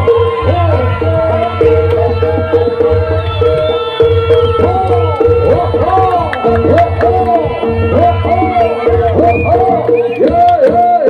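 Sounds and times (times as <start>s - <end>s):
low bass: 0.0s - 10.6s
hand drums: 0.0s - 11.0s.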